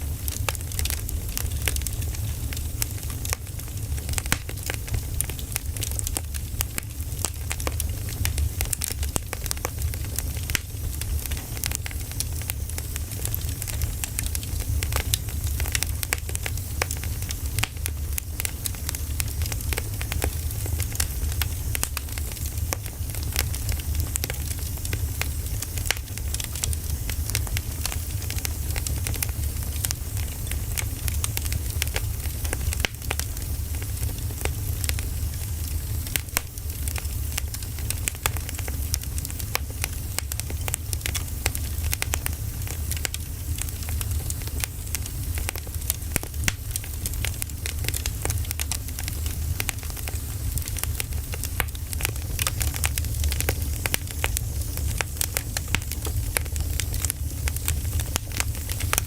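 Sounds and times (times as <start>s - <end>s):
fire low rumble: 0.0s - 59.0s
logs crackling and popping: 0.0s - 59.0s.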